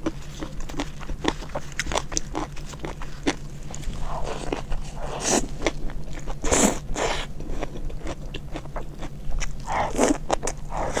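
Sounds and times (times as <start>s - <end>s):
person chewing and biting food: 0.0s - 11.0s.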